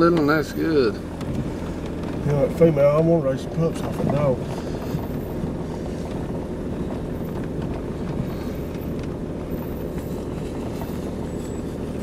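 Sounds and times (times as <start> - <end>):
vehicle rumbling on gravel: 0.0 - 12.0.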